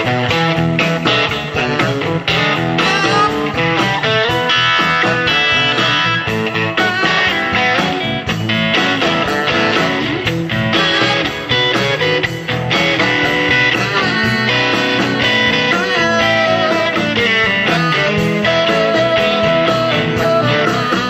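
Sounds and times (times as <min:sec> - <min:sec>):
blues-rock band with guitar: 0:00.0 - 0:21.0.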